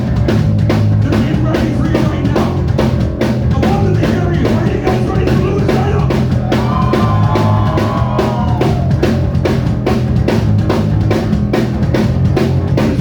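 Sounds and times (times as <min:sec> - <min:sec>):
drum kit fast beat: 0:00.0 - 0:13.0
live rock band playing: 0:00.0 - 0:13.0.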